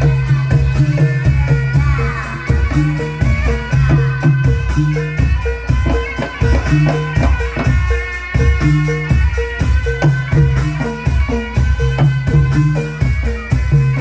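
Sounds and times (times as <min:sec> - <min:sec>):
drum strokes on a steady beat: 0:00.0 - 0:14.0.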